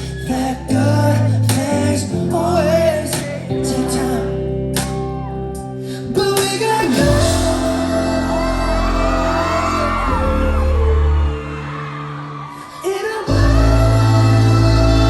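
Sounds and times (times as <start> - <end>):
person singing: 0.0 - 4.7, 5.5 - 15.0
live pop band playing: 0.0 - 15.0.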